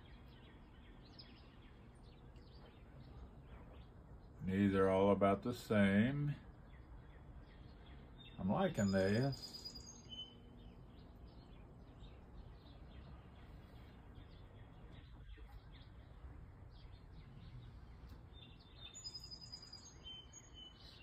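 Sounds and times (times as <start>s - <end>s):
low background rumble: 0.0s - 20.5s
faint birds chirping: 0.0s - 21.0s.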